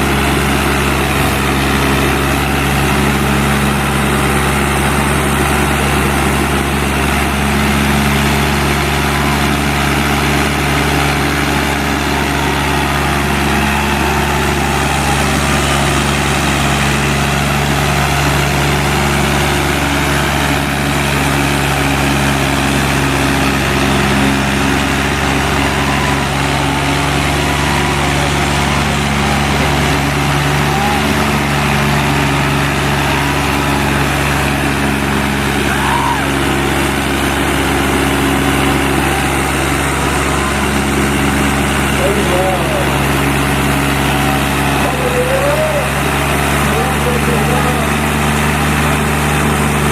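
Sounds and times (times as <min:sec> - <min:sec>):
tractor engines under heavy load: 0:00.0 - 0:49.9.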